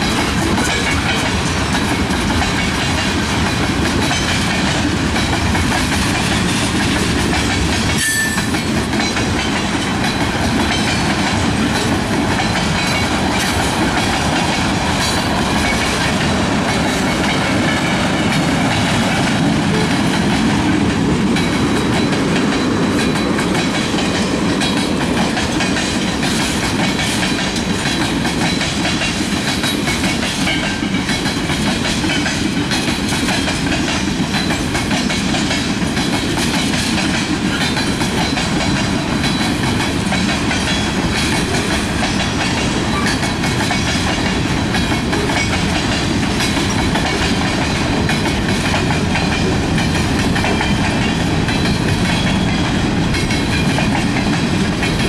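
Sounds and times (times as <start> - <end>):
steel wheels rolling on rail: 0.0 - 55.0.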